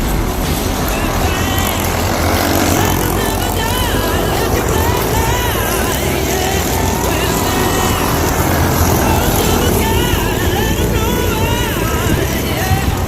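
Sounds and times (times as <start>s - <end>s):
go-kart engine racing: 0.0s - 13.0s
tyre noise: 0.0s - 13.0s.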